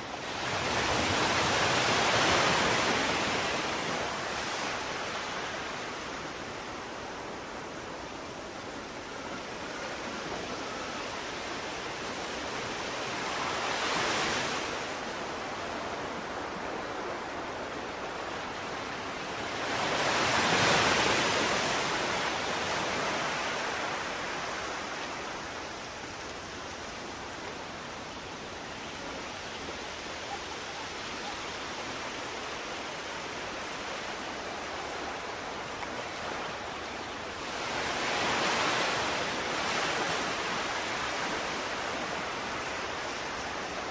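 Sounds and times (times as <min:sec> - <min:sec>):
waves washing on beach: 0:00.0 - 0:43.9.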